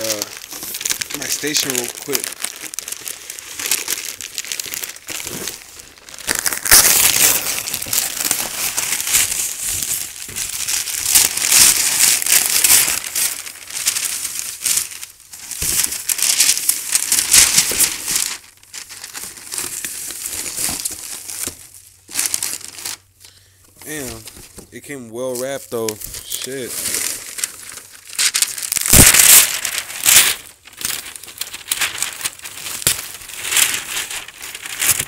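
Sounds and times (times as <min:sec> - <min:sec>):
paper and cardboard crumpling: 0:00.0 - 0:23.2, 0:23.8 - 0:35.0.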